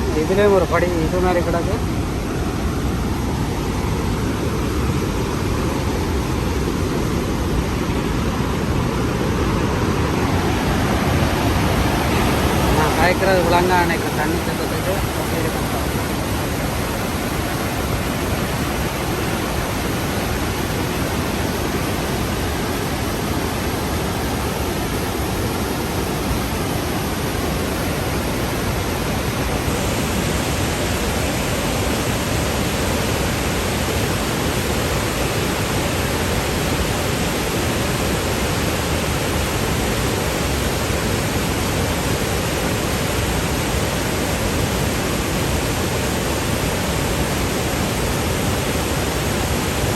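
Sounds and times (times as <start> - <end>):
waterfall rushing loudly: 0.0 - 49.9.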